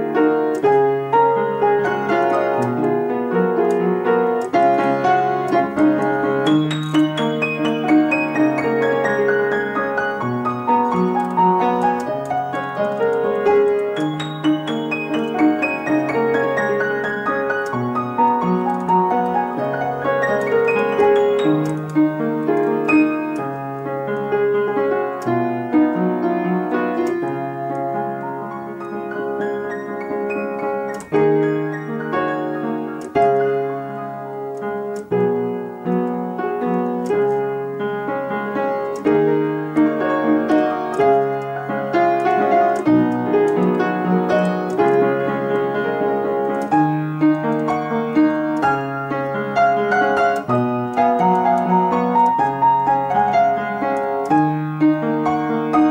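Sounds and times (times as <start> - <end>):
slow solo piano piece: 0.0 - 55.9.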